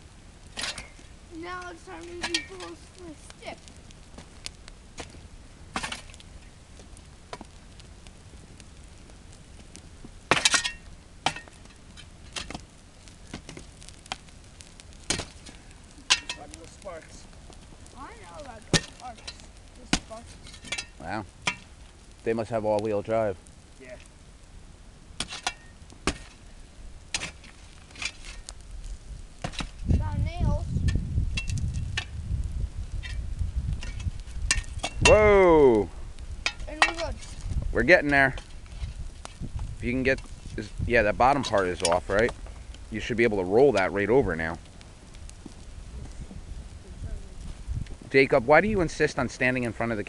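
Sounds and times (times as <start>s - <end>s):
bonfire crackling and popping: 0.0s - 50.0s.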